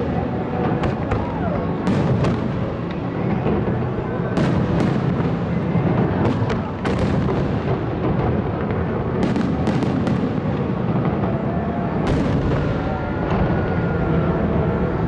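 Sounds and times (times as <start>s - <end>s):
fireworks rumble: 0.0s - 15.0s.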